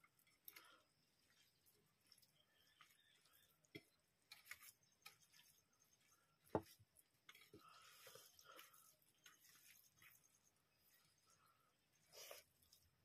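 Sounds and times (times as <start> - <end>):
fingers squishing rice: 0.0 - 13.0.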